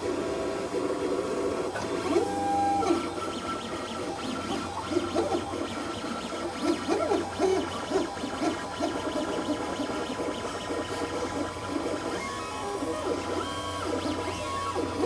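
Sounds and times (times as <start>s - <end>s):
stepper motors whining: 1.8s - 15.0s.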